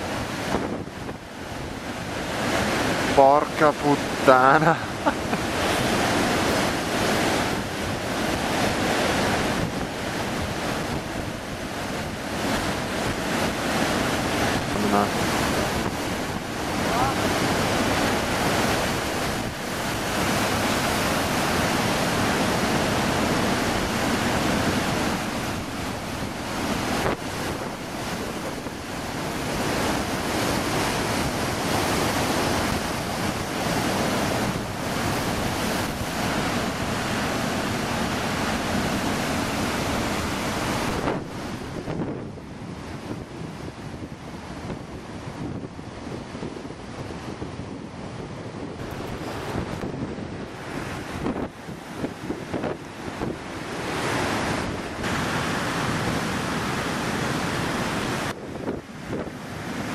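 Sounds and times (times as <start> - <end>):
wind buffeting microphone: 0.0 - 3.2, 3.9 - 59.9
ocean surf breaking on shore: 0.0 - 59.9.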